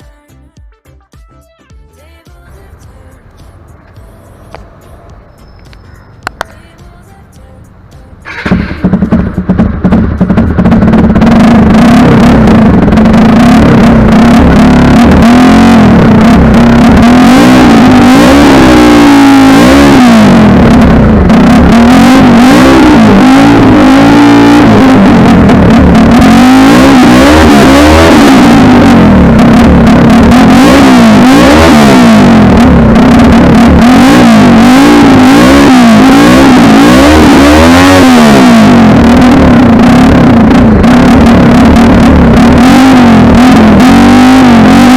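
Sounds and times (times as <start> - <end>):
motorcycle engine idling and revving: 1.9 - 44.9.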